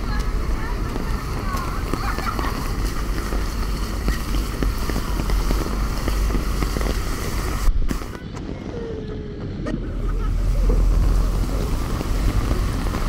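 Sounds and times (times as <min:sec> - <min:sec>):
water splashing from feet: 0:00.0 - 0:08.1, 0:10.2 - 0:13.0
high hiss: 0:00.0 - 0:08.2, 0:10.0 - 0:13.0
heavy rain: 0:00.0 - 0:13.0
low rumble: 0:00.0 - 0:13.0.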